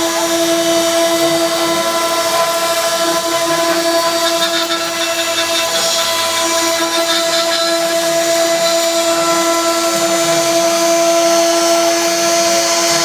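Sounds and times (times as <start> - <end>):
cnc spindle whine: 0.0 - 13.0.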